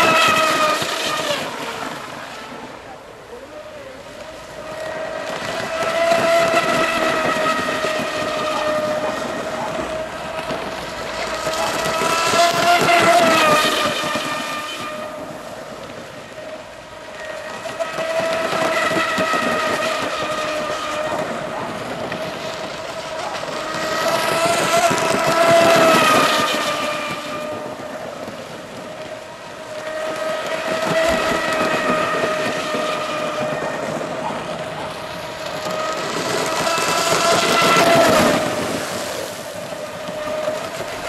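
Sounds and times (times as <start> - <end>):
rc boat motor whine: 0.0 - 41.0.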